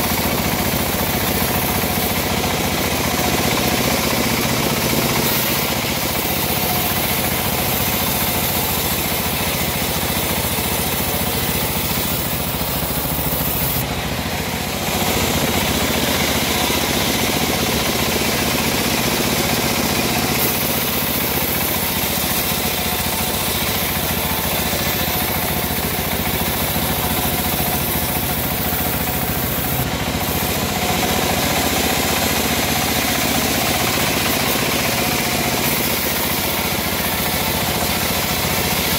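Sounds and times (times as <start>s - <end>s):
bandsaw cutting log: 0.0s - 38.9s.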